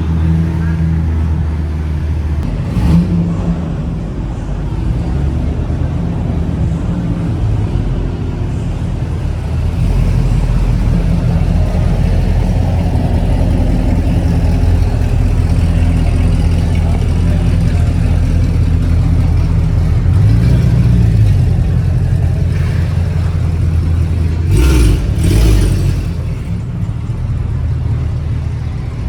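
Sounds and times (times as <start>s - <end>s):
car engines droning: 0.0s - 29.0s.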